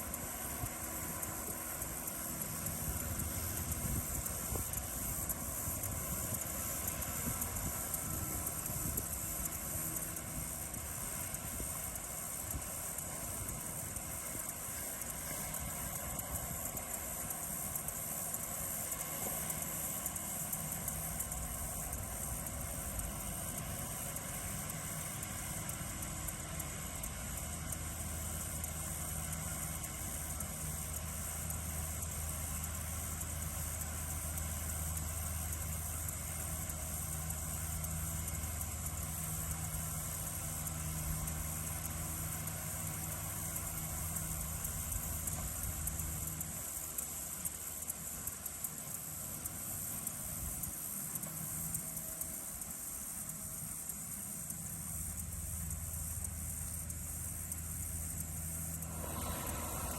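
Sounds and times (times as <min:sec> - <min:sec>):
crickets chirring: 0:00.0 - 0:59.9
tractor engine running: 0:00.0 - 0:59.9.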